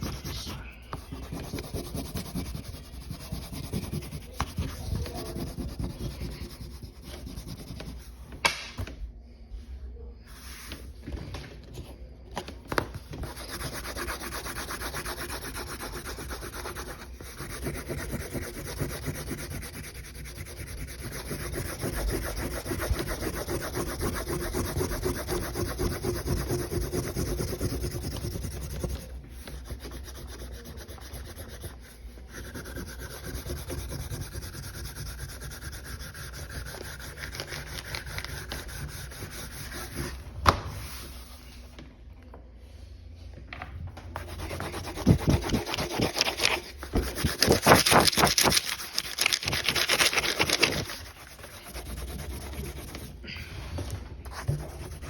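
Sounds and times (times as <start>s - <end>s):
colouring strokes rubbing: 0.0s - 8.2s, 13.2s - 40.2s, 44.2s - 53.2s.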